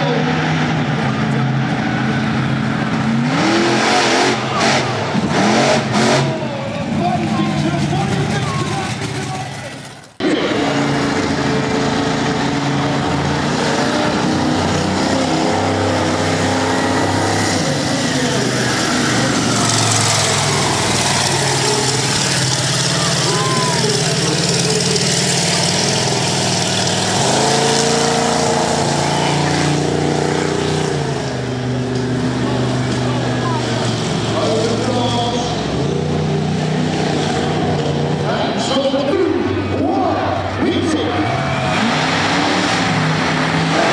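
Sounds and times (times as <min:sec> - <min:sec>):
monster truck engine revving: 0:00.0 - 0:43.9.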